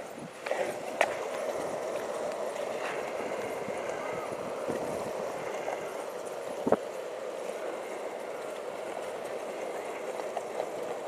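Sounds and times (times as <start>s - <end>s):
longboard wheels rolling on pavement: 0.0s - 11.0s.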